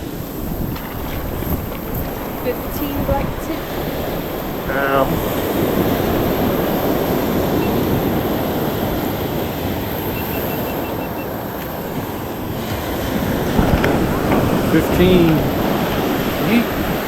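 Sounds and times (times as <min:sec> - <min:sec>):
ocean surf washing up beach: 0:00.0 - 0:17.0
wind buffeting microphone: 0:00.0 - 0:17.0.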